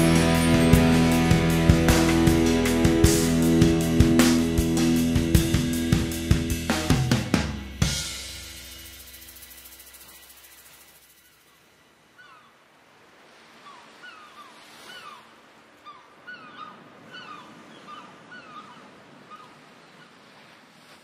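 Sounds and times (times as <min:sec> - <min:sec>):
gulls calling: 0:00.0 - 0:20.3.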